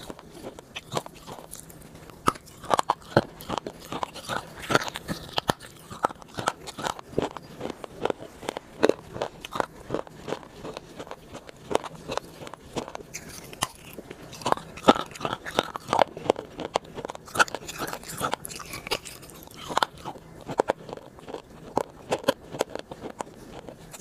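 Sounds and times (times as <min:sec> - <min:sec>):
crunchy snack chewing: 0:00.0 - 0:24.0.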